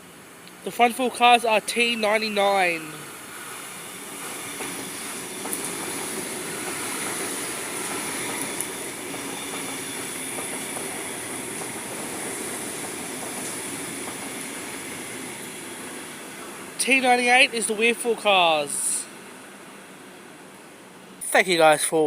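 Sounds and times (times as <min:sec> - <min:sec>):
train wheels on rails: 0:01.8 - 0:20.5.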